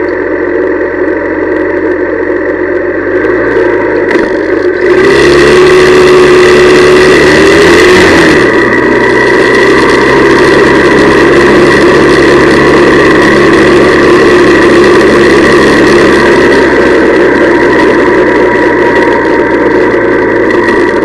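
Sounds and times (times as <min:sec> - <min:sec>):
motorcycle engine idling: 0:00.0 - 0:07.6, 0:08.3 - 0:21.0.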